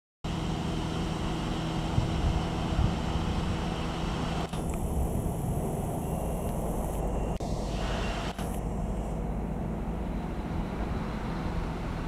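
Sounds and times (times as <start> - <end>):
diesel railcar engine idling: 0.3 - 12.0.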